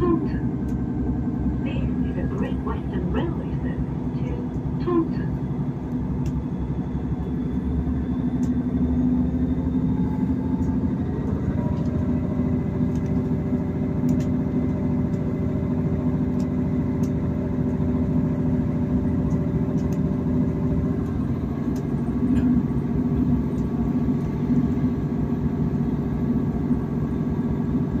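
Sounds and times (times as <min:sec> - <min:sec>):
train engine drone: 0:00.0 - 0:28.0.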